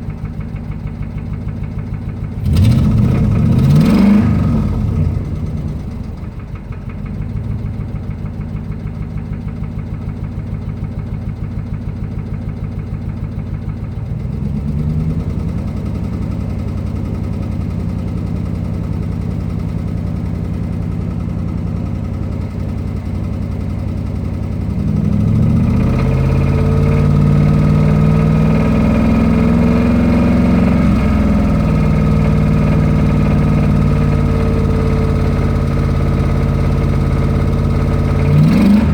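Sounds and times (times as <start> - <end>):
engine with regular knock: 0.0 - 38.9.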